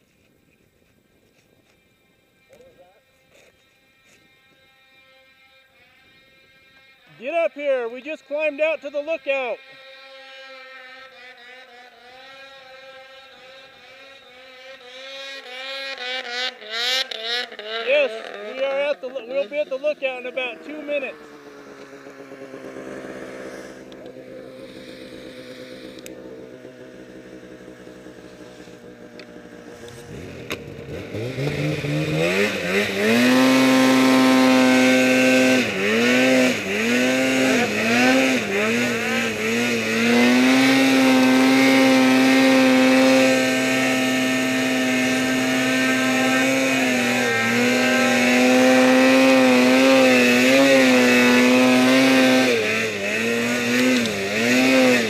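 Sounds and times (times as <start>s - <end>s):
snowmobile engine revving: 1.7s - 55.0s.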